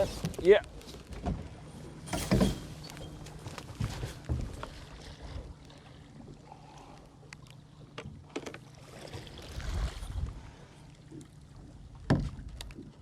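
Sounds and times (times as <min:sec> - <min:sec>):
boat engine hum: 0:00.0 - 0:13.0
water and wind noise: 0:00.0 - 0:13.0.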